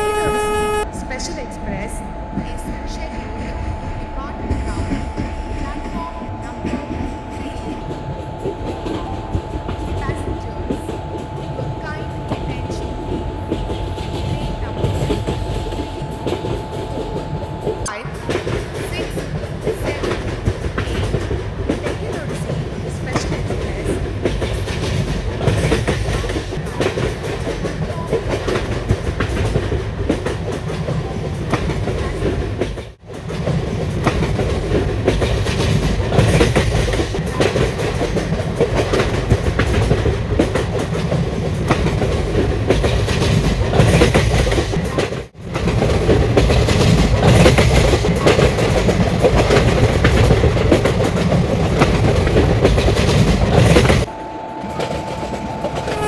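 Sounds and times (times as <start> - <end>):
train wheels clattering over rail joints: 8.4 - 54.1.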